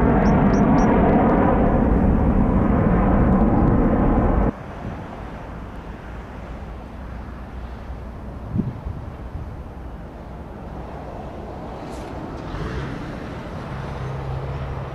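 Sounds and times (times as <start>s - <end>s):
distant jet noise: 0.0s - 14.9s
jet engines rumbling: 0.0s - 14.9s.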